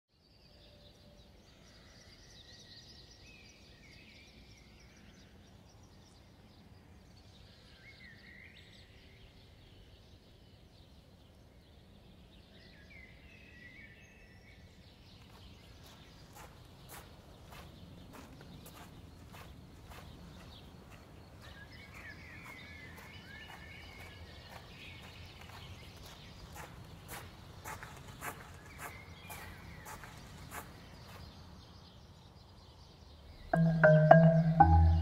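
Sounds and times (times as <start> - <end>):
faint outdoor ambience: 0.1 - 35.0.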